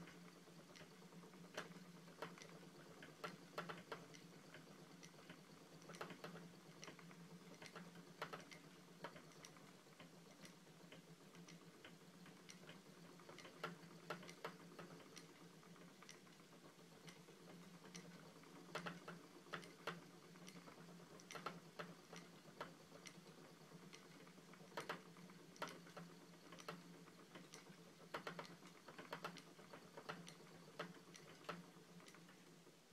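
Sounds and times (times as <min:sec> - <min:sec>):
spinning wheel clicking: 0:00.0 - 0:32.8
faint steady hum: 0:00.0 - 0:32.9.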